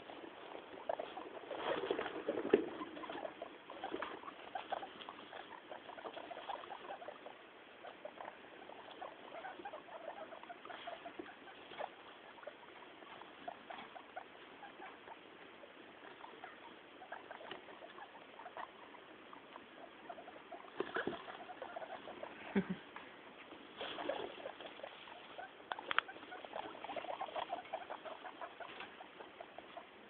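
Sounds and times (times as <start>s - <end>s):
guinea pigs rustling in straw: 0.0s - 30.0s.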